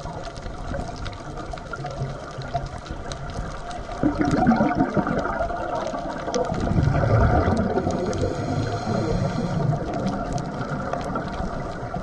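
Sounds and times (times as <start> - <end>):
faint crackling clicks: 0.0 - 12.0
regulator bubbles gurgling: 0.0 - 12.0
steady watery hiss: 0.0 - 12.0.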